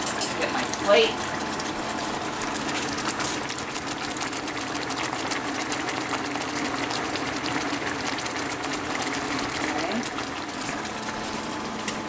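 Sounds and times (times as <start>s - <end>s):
sauce bubbling and sizzling in pan: 0.0s - 12.0s.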